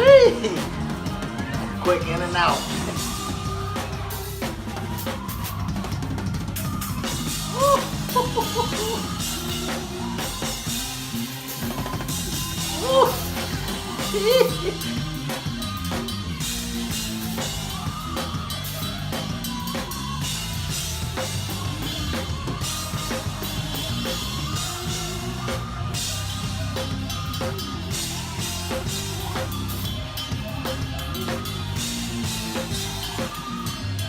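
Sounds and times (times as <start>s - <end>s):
fast drum kit playing: 0.0s - 34.0s
live band music: 0.0s - 34.0s.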